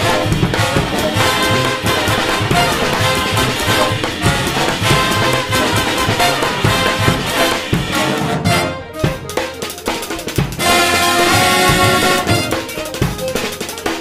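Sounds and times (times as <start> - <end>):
brass band playing: 0.0 - 14.0
drum kit: 0.0 - 14.0.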